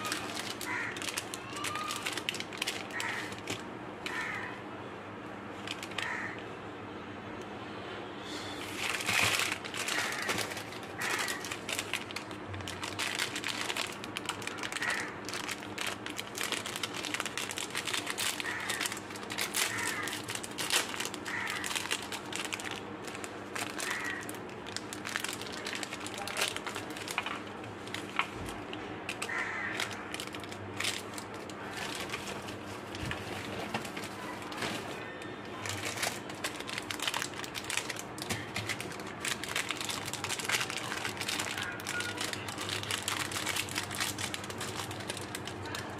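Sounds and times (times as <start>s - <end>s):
plastic candy wrappers crinkling: 0.0s - 4.6s, 5.5s - 6.5s, 8.6s - 45.9s.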